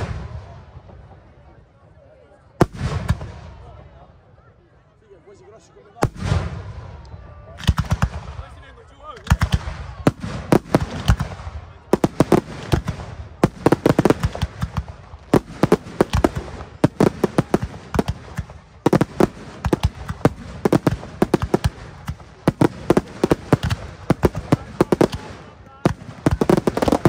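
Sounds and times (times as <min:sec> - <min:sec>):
fireworks bangs and crackles: 0:00.0 - 0:01.6, 0:02.5 - 0:04.0, 0:06.0 - 0:27.0.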